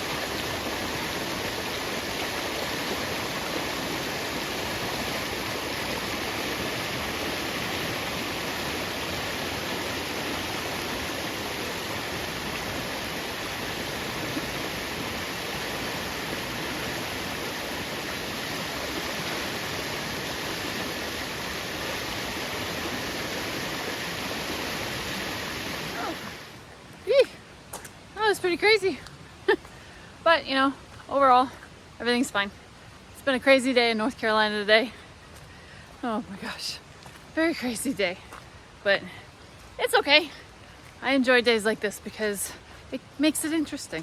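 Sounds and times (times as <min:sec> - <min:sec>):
creek rushing: 0:00.0 - 0:44.0.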